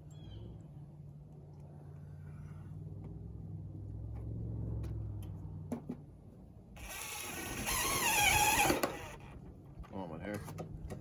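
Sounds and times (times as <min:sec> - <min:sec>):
vehicle engine hum: 0:00.0 - 0:09.8.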